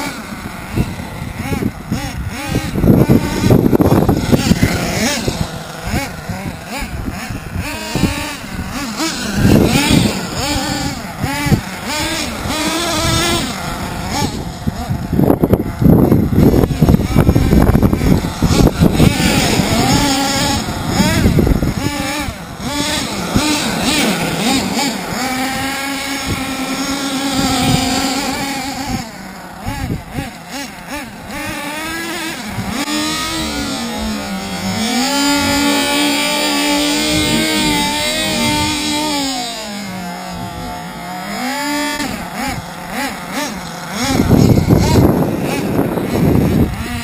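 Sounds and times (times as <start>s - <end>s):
rc truck nitro engines revving: 0.0s - 47.0s.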